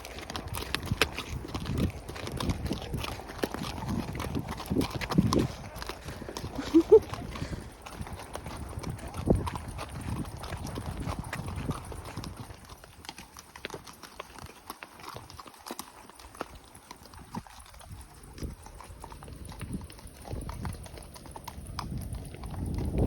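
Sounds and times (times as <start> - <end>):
horse hooves clopping: 0.0 - 23.0.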